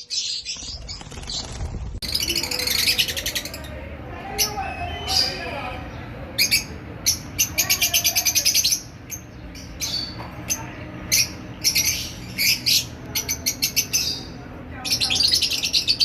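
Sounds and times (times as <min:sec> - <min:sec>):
lovebirds chirping: 0:00.0 - 0:16.0.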